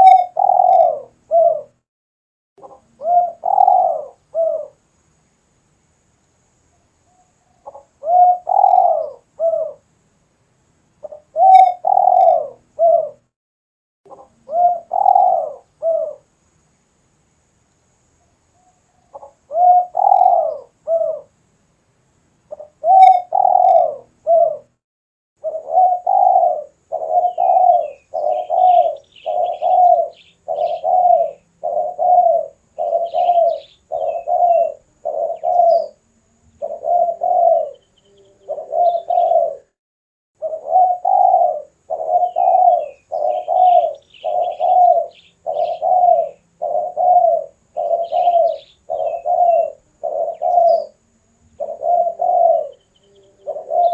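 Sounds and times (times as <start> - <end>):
dove cooing: 0.0 - 1.8, 2.6 - 4.8, 7.1 - 9.9, 11.0 - 13.3, 14.1 - 16.3, 18.6 - 21.4, 22.5 - 24.8, 25.4 - 39.8, 40.4 - 53.9
small bird chirping: 0.0 - 1.8, 2.6 - 4.8, 6.6 - 9.8, 11.0 - 13.3, 14.1 - 16.4, 18.1 - 21.3, 22.4 - 24.8, 25.4 - 39.8, 40.4 - 53.9.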